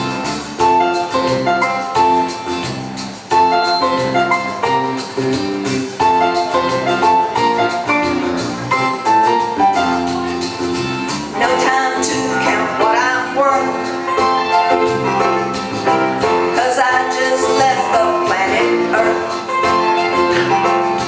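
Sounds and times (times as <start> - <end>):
live band music: 0.0 - 21.0.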